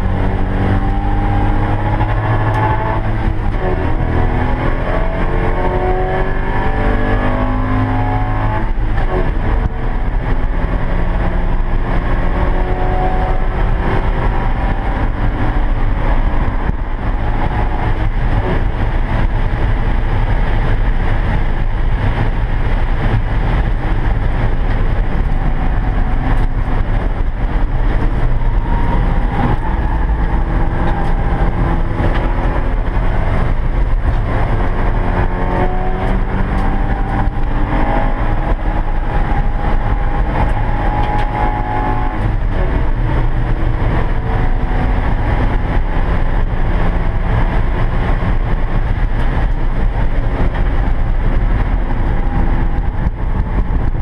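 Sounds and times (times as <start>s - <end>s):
race car engine accelerating: 0.0s - 54.0s
wind and road noise: 0.0s - 54.0s.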